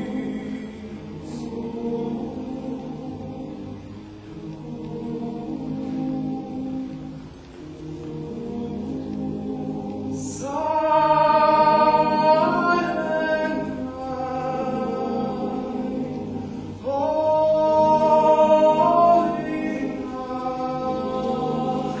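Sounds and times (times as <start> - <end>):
male choir singing in harmony: 0.0 - 22.0.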